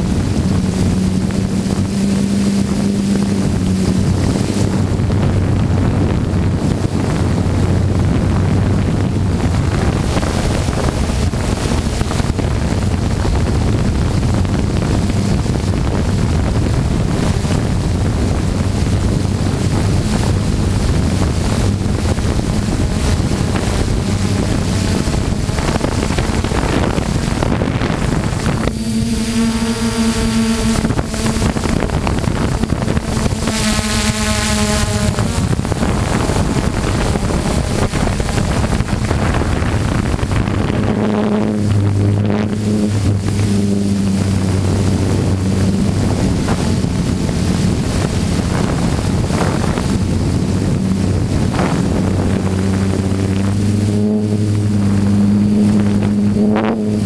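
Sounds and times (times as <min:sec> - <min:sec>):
drone motors whining: 0:00.0 - 0:57.0
wind buffeting microphone: 0:00.0 - 0:57.0.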